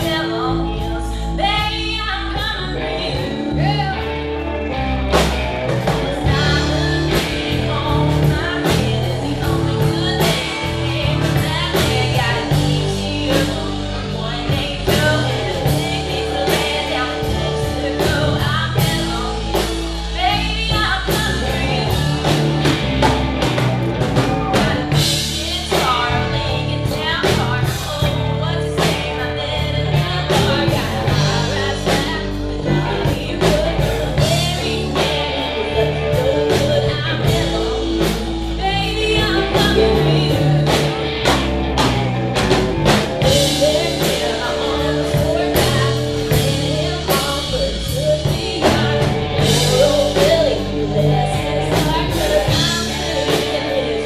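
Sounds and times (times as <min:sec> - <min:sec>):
drum kit beat: 0:00.0 - 0:54.0
rock band playing: 0:00.0 - 0:54.0
woman singing lead: 0:00.0 - 0:54.0.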